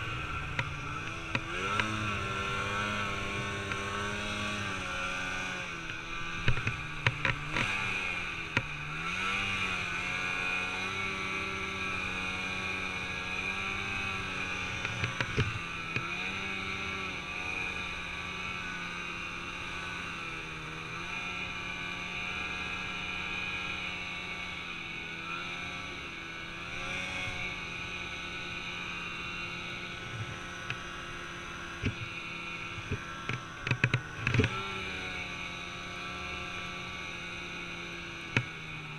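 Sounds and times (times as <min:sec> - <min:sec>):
snowmobile engine under load: 0:00.0 - 0:38.9.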